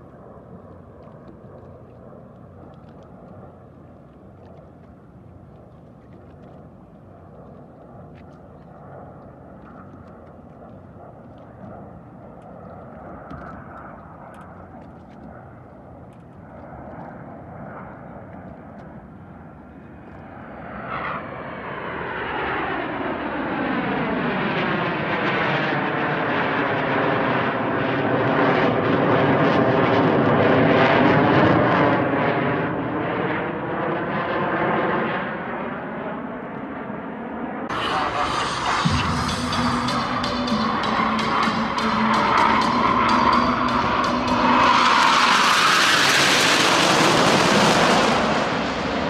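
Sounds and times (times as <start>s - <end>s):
jets passing overhead: 8.7s - 49.0s.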